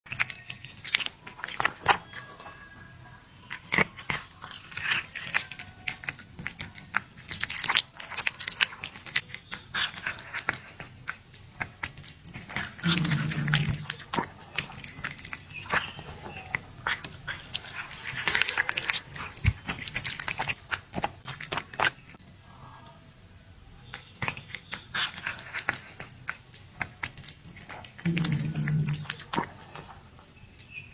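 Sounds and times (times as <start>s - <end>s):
cat chewing and licking meat: 0.0s - 22.3s, 23.8s - 30.9s.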